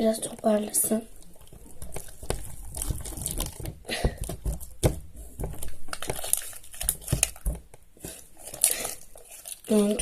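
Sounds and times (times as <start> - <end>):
slime squelching by hand: 0.0 - 10.0.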